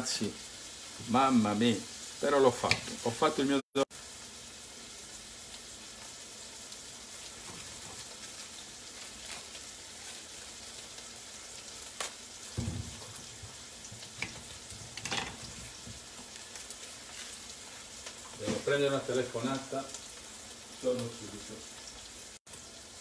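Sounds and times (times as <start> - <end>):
onion sizzling in oil: 0.0 - 23.0.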